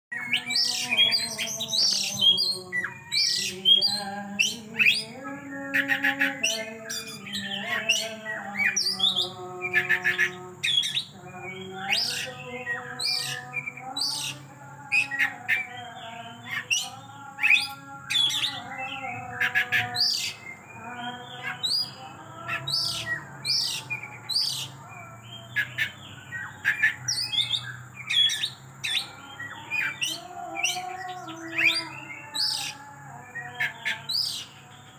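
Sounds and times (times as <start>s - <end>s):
bird singing varied song: 0.1s - 34.9s.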